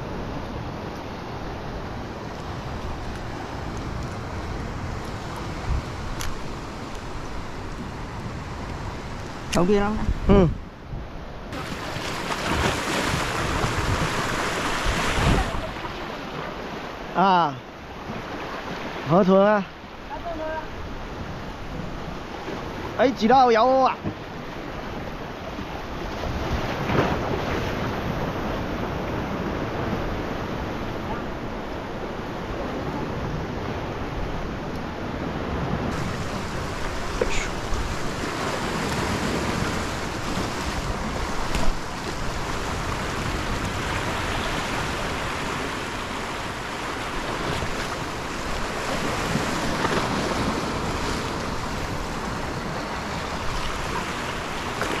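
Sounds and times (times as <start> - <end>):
wind on microphone: 0.0 - 16.9, 24.1 - 55.0
ocean waves: 0.0 - 55.0.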